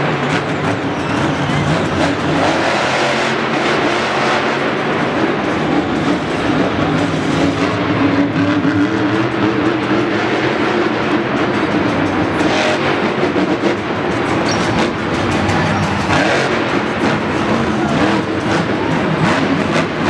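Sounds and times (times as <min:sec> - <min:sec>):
truck engine loud drone: 0:00.0 - 0:20.0.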